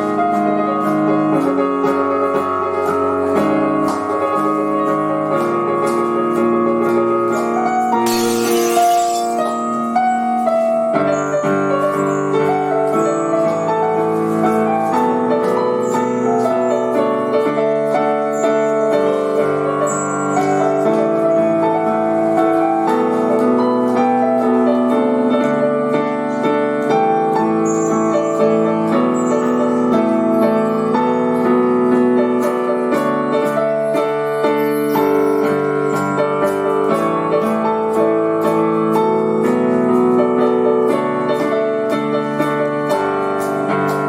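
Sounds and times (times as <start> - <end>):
piano melody over chords: 0.0 - 44.0.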